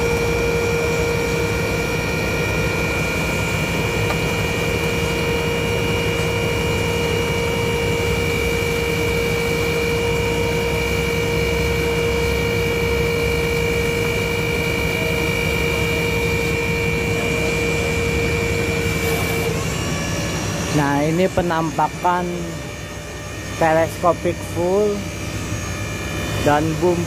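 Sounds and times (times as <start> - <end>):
hydraulic power pack whining: 0.0 - 27.0
truck engine running: 0.0 - 27.0.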